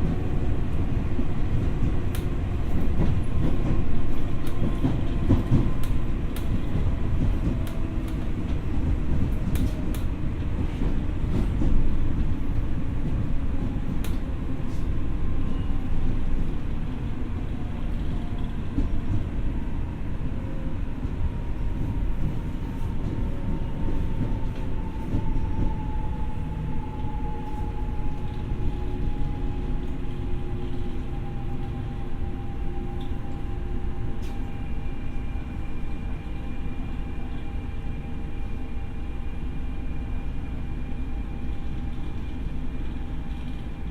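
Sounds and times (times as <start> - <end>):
train wheels rumbling on track: 0.0 - 43.9.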